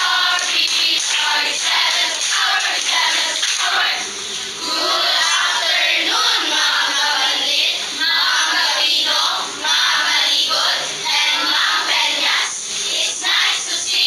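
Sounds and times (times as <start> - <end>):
many students talking: 0.0 - 14.0.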